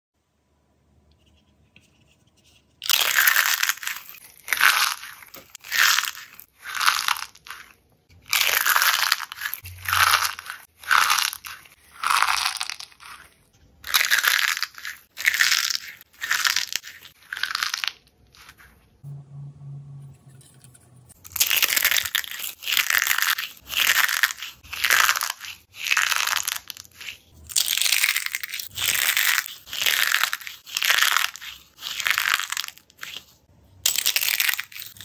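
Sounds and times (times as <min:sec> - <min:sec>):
crunchy filling being crushed: 0:02.8 - 0:18.8, 0:21.2 - 0:35.0.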